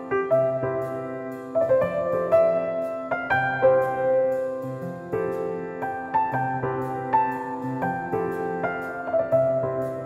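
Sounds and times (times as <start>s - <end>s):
piano notes: 0.0s - 10.0s.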